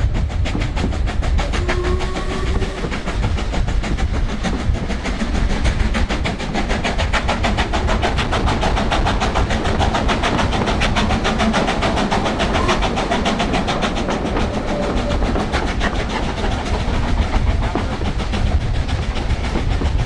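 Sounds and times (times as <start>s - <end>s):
steam locomotive exhaust beats: 0.0s - 20.0s
train rumbling on rails: 0.0s - 20.0s.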